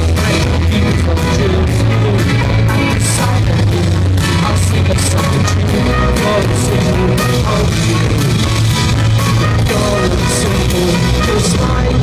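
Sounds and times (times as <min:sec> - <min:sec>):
bass guitar: 0:00.0 - 0:12.0
drum kit beats and cymbals: 0:00.0 - 0:12.0
electric guitars: 0:00.0 - 0:12.0.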